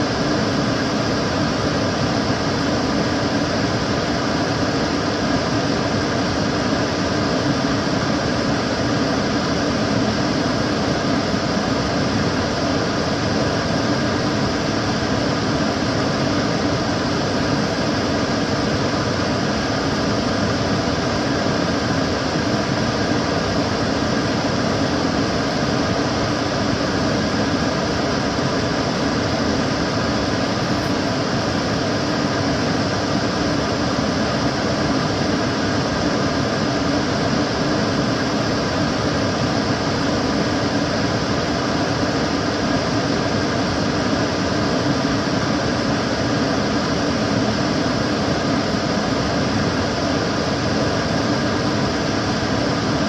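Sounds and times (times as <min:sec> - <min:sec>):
cooker hood fan air rush: 0:00.0 - 0:53.0
faint steady hum: 0:00.0 - 0:53.0.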